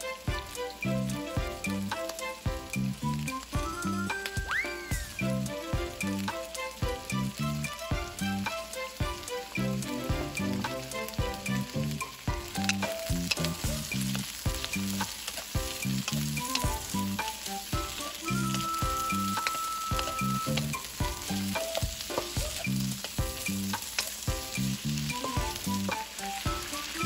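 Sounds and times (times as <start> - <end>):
vegetables sizzling in a wok: 0.0 - 27.0
wooden spatula scraping: 5.0 - 27.0.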